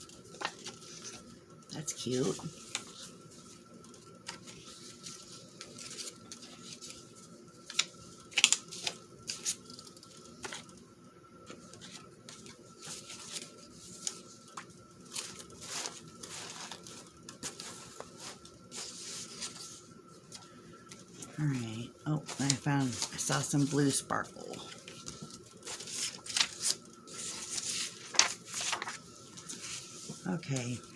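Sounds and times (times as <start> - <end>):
paper rustling and crinkling: 0.0 - 1.4, 2.0 - 10.8, 11.4 - 30.9.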